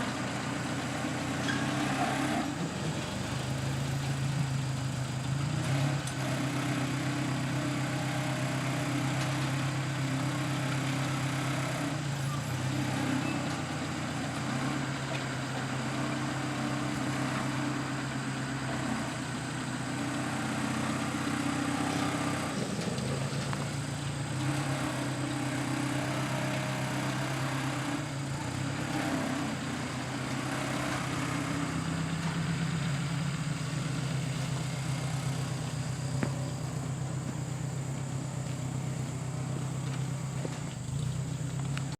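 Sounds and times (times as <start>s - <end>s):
tractor engine idling: 0.0s - 41.9s.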